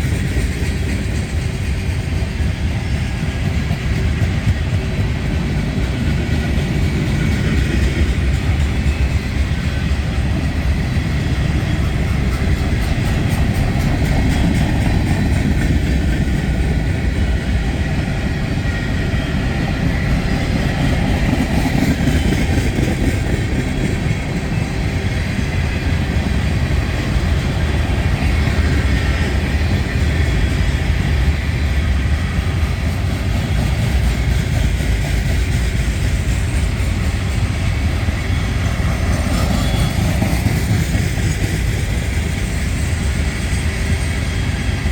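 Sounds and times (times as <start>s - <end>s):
freight train rumbling: 0.0s - 44.9s.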